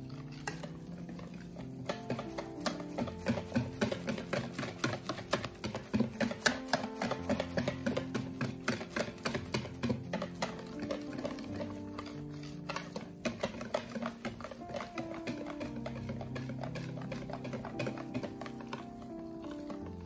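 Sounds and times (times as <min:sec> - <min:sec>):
soft background music: 0:00.0 - 0:20.0
whisk clicking against bowl: 0:00.0 - 0:20.0.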